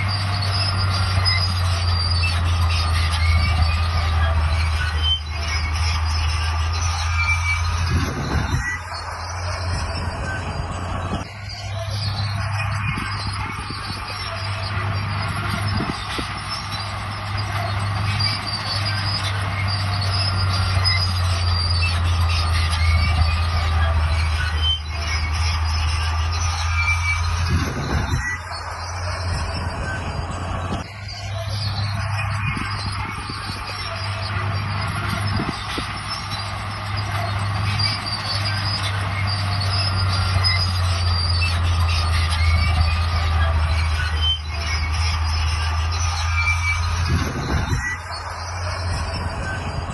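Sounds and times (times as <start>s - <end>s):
crawler tracks squealing and grinding: 0.0s - 49.9s
diesel engine running: 0.0s - 49.9s.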